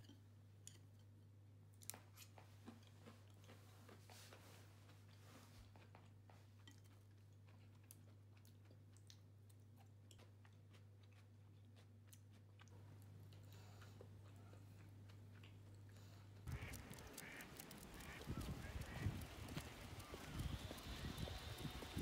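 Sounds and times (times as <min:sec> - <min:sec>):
quiet chewing: 0:00.0 - 0:22.0.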